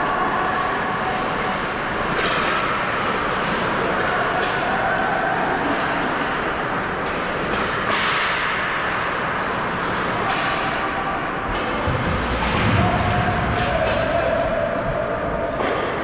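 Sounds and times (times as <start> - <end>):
hockey sticks and puck clacking: 0.1 - 16.0
skates scraping ice: 0.3 - 15.9.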